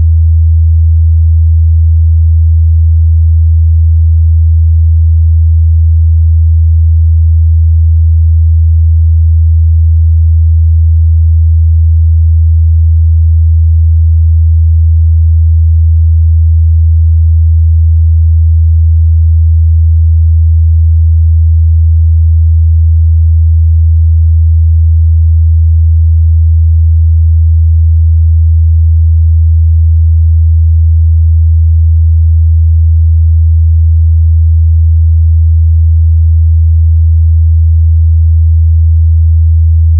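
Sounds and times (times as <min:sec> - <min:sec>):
low sine test tone: 0:00.0 - 0:39.9.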